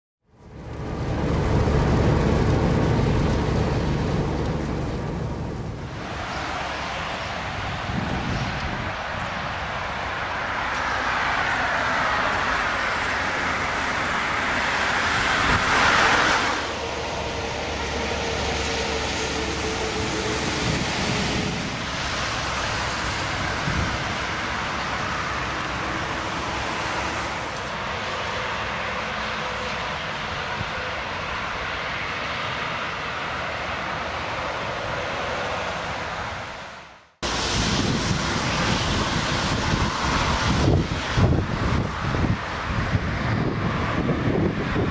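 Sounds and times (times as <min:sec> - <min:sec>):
motorway traffic noise: 0:00.2 - 0:44.9
vehicle passing close by: 0:00.4 - 0:44.9.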